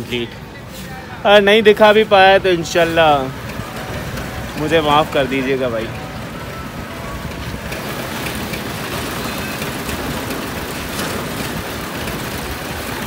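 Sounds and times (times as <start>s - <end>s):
construction machinery rumbling: 0.0s - 13.0s.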